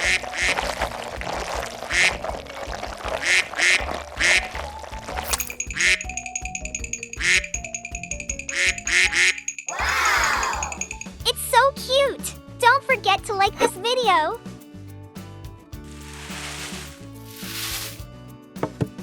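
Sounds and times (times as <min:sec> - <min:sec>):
playful background music: 0:00.0 - 0:19.0.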